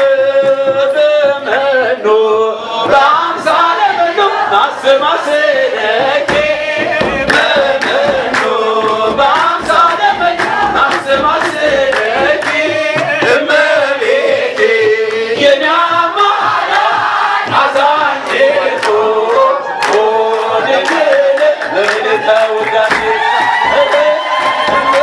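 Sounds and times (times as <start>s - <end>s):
hand clapping: 0.0s - 1.1s, 5.8s - 25.0s
men singing a hymn through microphones: 0.0s - 25.0s.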